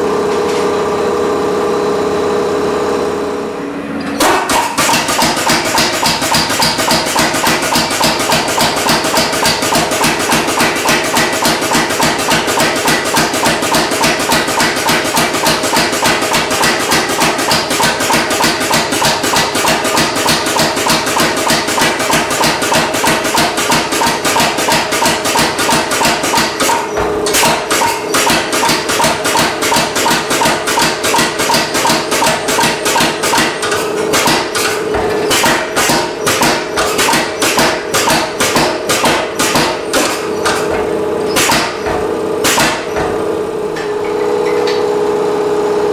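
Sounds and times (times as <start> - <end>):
power hammer striking hot steel: 3.8 - 44.8.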